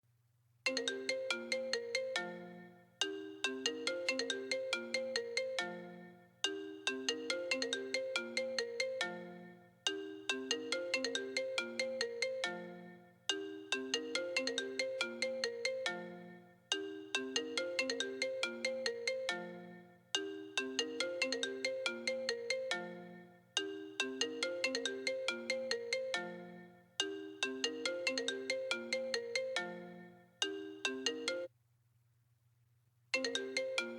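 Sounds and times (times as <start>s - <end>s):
phone ringtone plucked melody: 0.7s - 31.5s, 33.2s - 33.9s.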